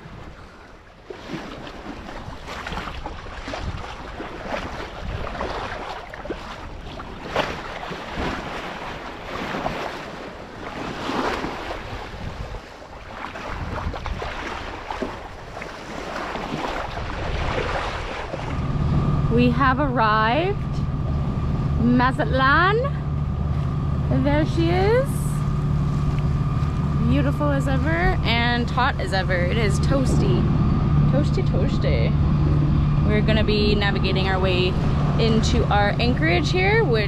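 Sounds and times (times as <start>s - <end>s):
water splashing along boat hull: 0.0s - 37.0s
wind buffeting microphone: 1.3s - 37.0s.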